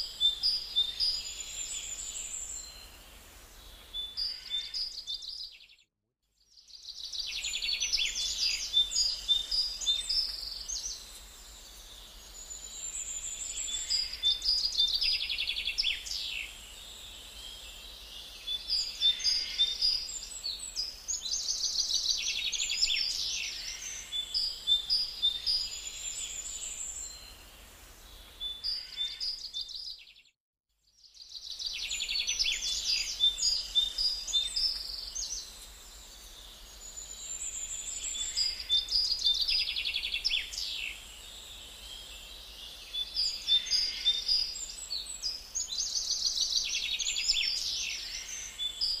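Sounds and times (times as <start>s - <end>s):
birds chirping and trilling: 3.6s - 5.7s, 6.8s - 27.4s, 28.1s - 30.2s, 31.3s - 49.0s.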